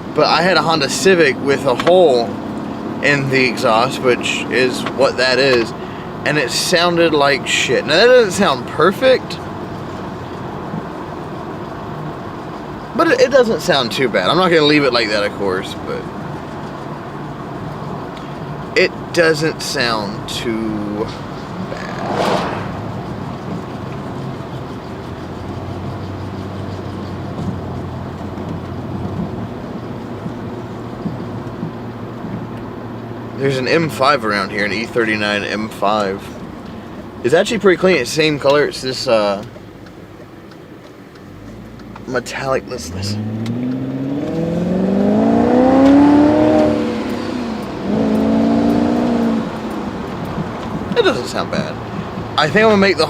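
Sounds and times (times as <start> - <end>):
engine droning with exhaust leak: 0.0 - 53.0.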